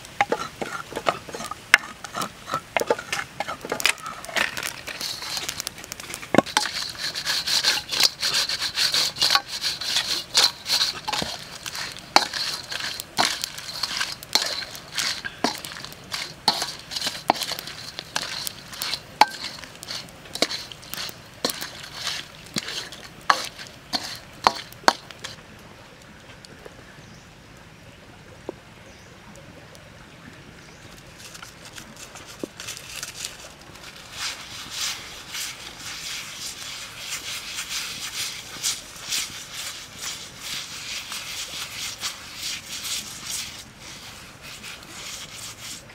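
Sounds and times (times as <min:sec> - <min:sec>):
prawns sizzling in a wok: 0:00.0 - 0:25.4, 0:32.3 - 0:45.9.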